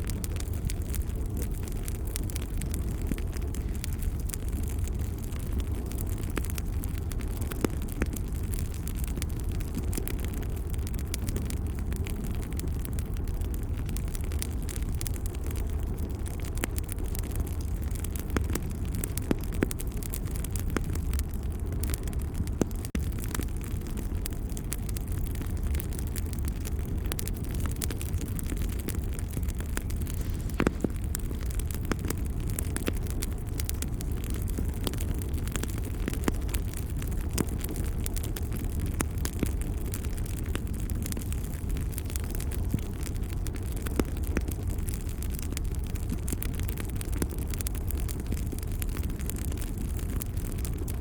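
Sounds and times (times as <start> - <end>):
fire popping: 0.0 - 51.0
wood fire crackling: 0.0 - 51.0.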